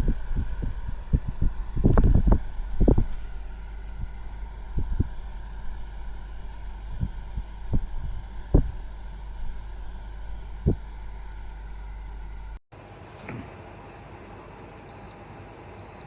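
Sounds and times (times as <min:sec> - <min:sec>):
dehumidifier humming: 0:00.0 - 0:16.0.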